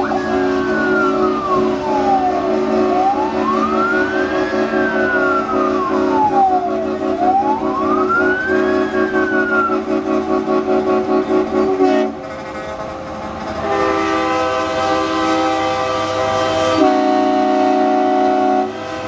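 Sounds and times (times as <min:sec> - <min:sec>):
air horn chord: 0:00.0 - 0:08.6, 0:09.6 - 0:19.0
wailing siren: 0:00.0 - 0:12.0, 0:13.6 - 0:19.0.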